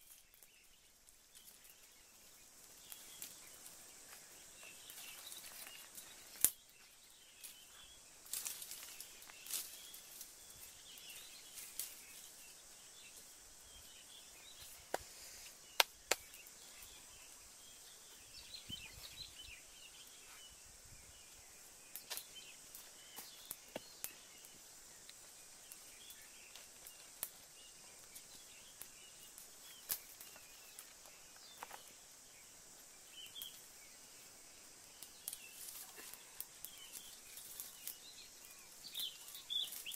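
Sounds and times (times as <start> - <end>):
faint chirps: 0.0 - 39.9
faint high hiss: 0.0 - 39.9
twig fire crackling: 0.0 - 39.9.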